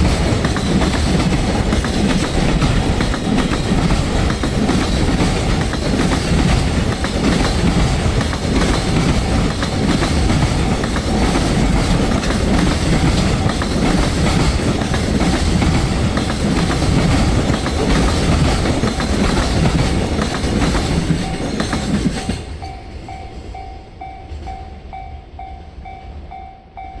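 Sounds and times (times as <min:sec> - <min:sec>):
freight train wheels clattering: 0:00.0 - 0:24.7
level-crossing warning bell: 0:00.0 - 0:27.0.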